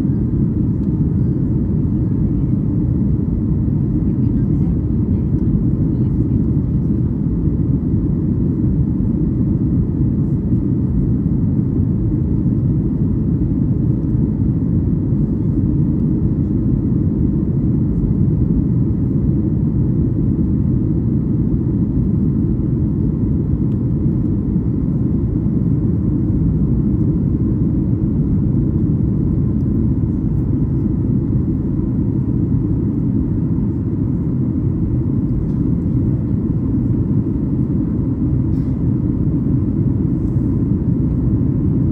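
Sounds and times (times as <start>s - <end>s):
airplane cabin rumble: 0.0s - 41.9s.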